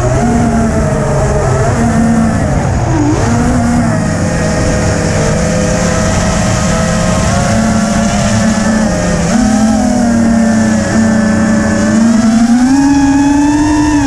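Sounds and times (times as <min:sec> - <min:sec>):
drone motors whining: 0:00.0 - 0:14.0
wind buffeting microphone: 0:00.0 - 0:14.0.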